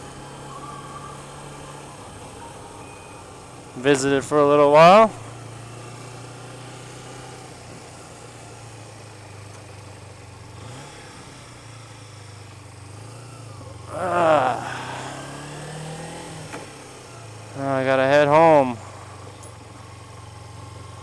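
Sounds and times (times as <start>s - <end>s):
motorcycle engine idling: 0.0s - 15.8s, 16.6s - 21.0s.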